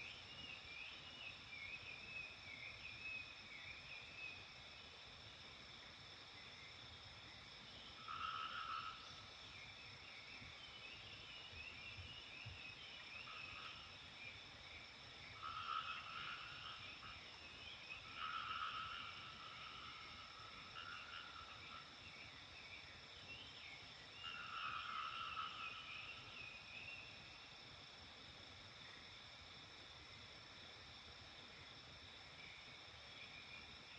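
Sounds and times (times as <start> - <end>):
frogs croaking: 0.0 - 33.9.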